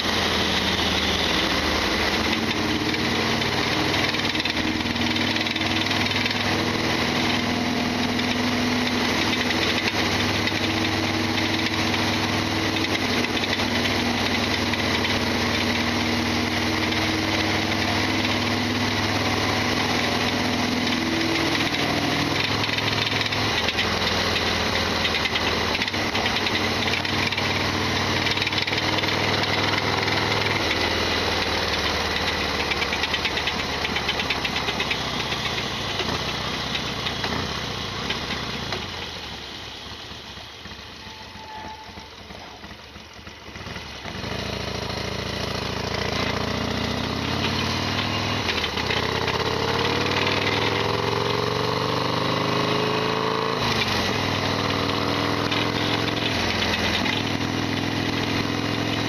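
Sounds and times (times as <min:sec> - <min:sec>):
engine rattling: 0:00.0 - 0:59.0
motorcycle engine running: 0:00.0 - 0:59.0.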